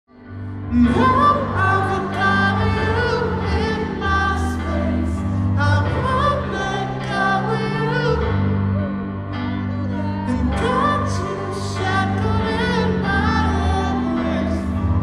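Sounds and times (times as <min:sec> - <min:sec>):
man singing into microphone: 0:00.7 - 0:09.0, 0:10.3 - 0:15.0.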